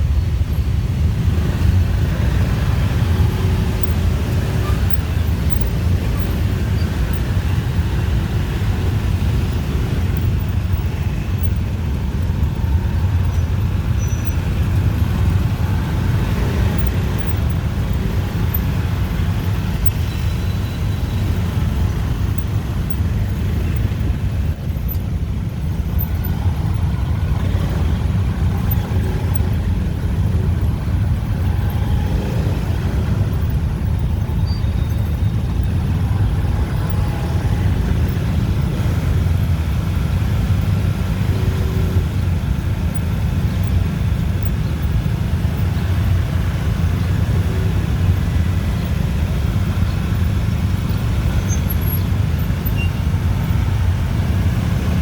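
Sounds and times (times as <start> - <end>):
motorbike and car engines passing: 0.0 - 55.0.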